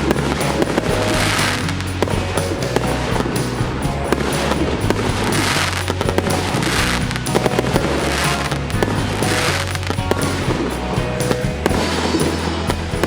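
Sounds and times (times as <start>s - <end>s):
background music with bass line: 0.0s - 13.0s
firework cake popping and banging: 0.0s - 13.0s.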